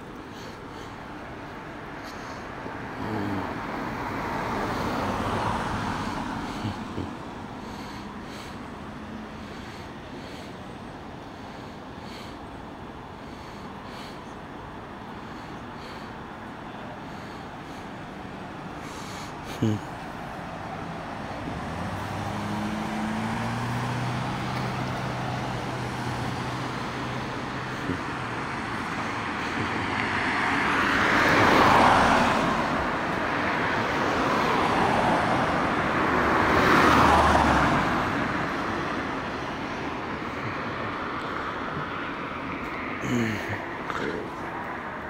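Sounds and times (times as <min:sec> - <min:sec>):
cars passing by: 0:00.0 - 0:45.0
steady traffic hum: 0:00.0 - 0:45.0.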